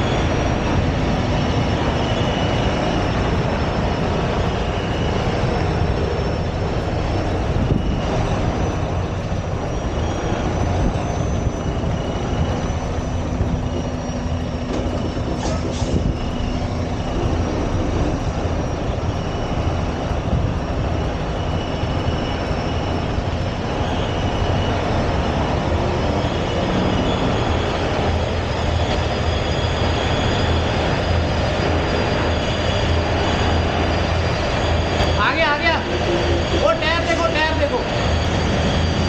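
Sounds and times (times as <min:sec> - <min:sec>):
truck engine rumbling: 0:00.0 - 0:39.0.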